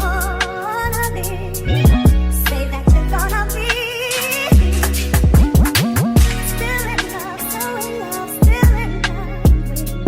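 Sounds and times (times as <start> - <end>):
r and b song with singing: 0.0 - 10.0.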